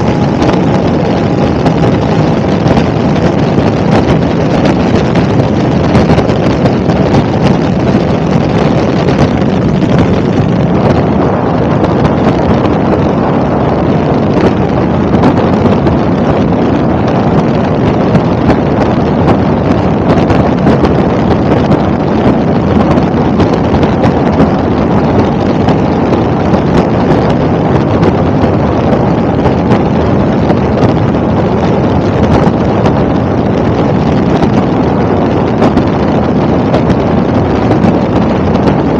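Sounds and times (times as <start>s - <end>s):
helicopter rumble: 0.0s - 38.9s
wind buffeting microphone: 0.0s - 38.9s.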